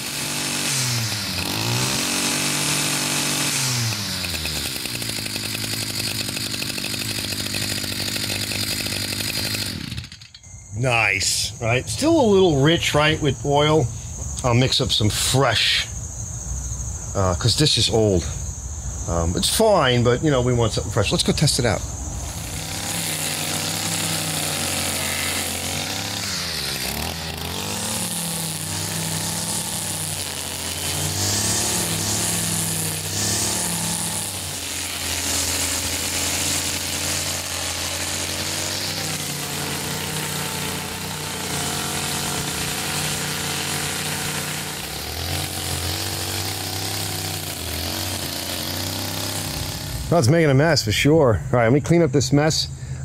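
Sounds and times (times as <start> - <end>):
string trimmer engine running: 0.0 - 14.5, 21.3 - 50.6
trimmer line cutting grass: 0.0 - 14.5, 20.4 - 50.7.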